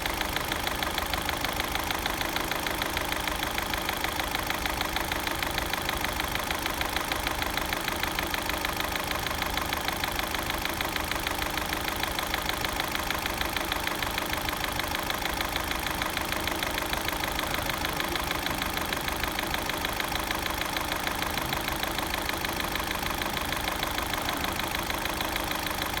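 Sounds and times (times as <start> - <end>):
engine idling with rapid knock: 0.0 - 26.0.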